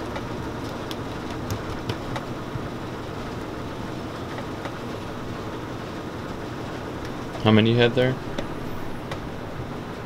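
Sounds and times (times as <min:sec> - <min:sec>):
machinery humming: 0:00.0 - 0:10.0.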